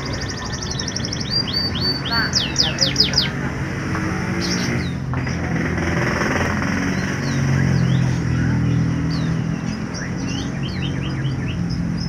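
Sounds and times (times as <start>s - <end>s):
canary chirping and singing: 0.0s - 12.0s
low engine-like hum: 0.0s - 12.0s.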